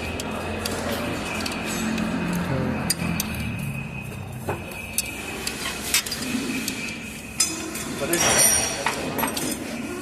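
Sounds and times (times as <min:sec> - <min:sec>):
metal tools clinking: 0:00.0 - 0:10.0
workshop background hum: 0:00.0 - 0:10.0.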